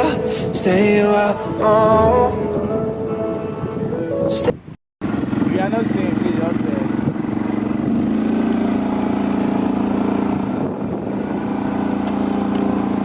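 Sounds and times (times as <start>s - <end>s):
motorboat engine droning: 0.0s - 4.3s, 5.0s - 13.0s.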